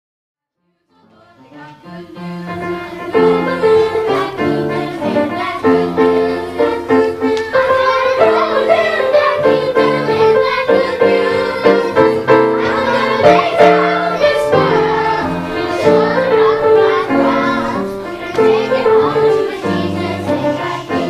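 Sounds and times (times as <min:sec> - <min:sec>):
children's choir singing: 0:00.7 - 0:21.0.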